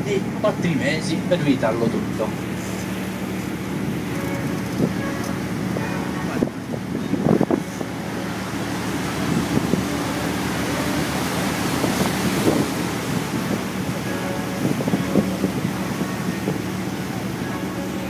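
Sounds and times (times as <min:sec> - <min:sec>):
boat engine drone: 0:00.0 - 0:18.0
water noise: 0:00.0 - 0:18.0
wind noise: 0:02.4 - 0:17.0.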